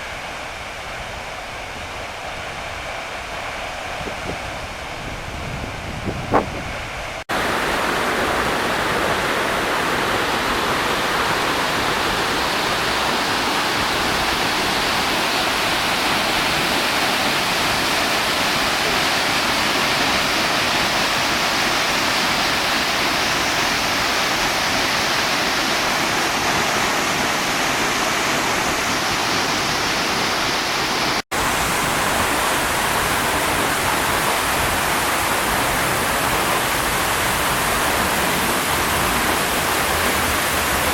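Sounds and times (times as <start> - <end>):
waterfall rushing: 7.0 - 40.9.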